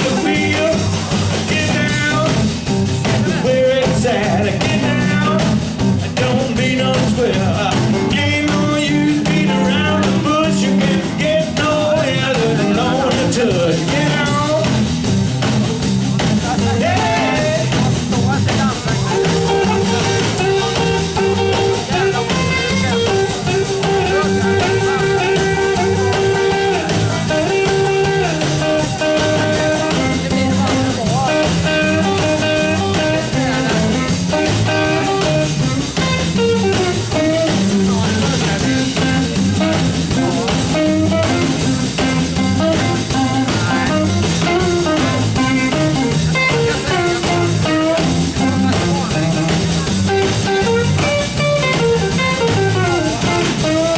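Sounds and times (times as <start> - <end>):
drum kit: 0.0 - 53.9
electric guitar: 0.0 - 53.9
upright bass: 0.0 - 53.9.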